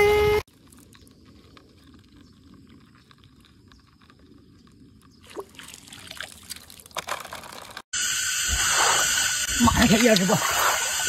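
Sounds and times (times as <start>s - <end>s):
faint water-side noise: 0.5s - 11.0s.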